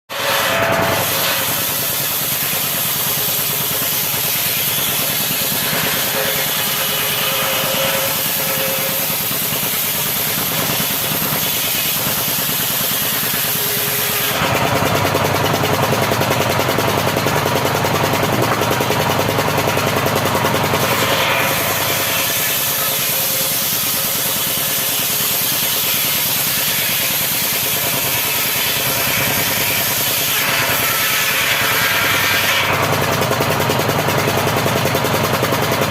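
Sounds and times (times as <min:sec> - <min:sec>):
power saw cutting wood: 0:00.1 - 0:35.9.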